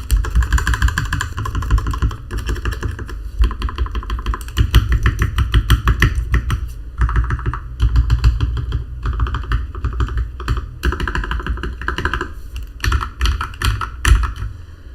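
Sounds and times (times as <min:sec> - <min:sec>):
mechanical keyboard typing: 0:00.0 - 0:14.5.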